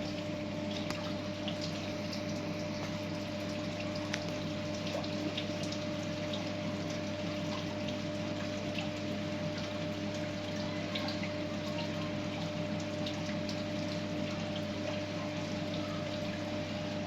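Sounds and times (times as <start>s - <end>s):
faint ticks and drips: 0.0s - 17.0s
steady mechanical hum: 0.0s - 17.0s.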